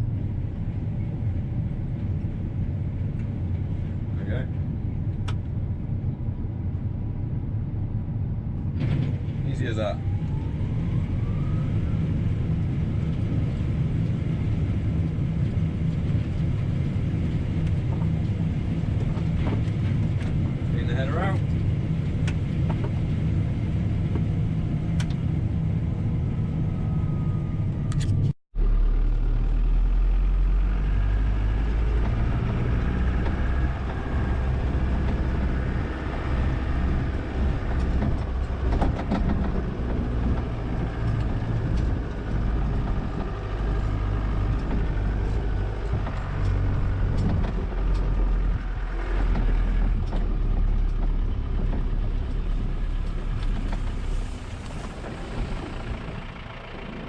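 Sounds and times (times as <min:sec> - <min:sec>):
deep steady drone: 0:00.0 - 0:57.0
diesel engine running: 0:00.0 - 0:57.0.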